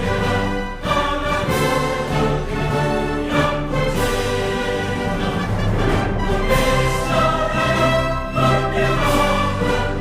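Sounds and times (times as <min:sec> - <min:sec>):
orchestral string chords: 0:00.0 - 0:10.0.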